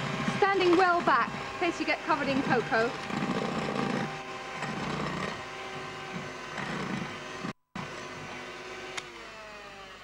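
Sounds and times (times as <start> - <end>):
electric hand mixer whisking: 0.0 - 10.0.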